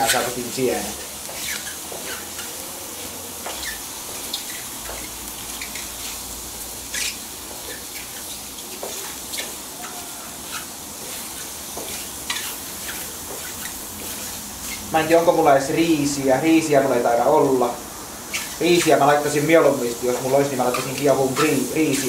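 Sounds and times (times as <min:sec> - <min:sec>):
mushrooms sizzling on grill plate: 0:00.0 - 0:22.0.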